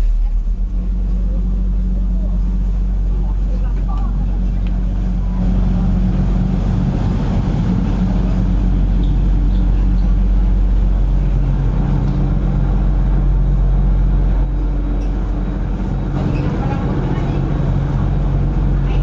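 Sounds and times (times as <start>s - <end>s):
ferry engine low drone: 0.0s - 19.0s.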